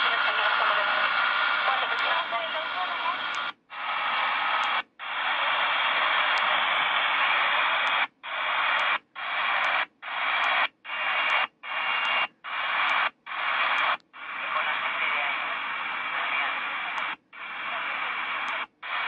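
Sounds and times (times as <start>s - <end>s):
faint radio clicks: 0.0s - 19.0s
radio static hissing: 0.0s - 19.0s.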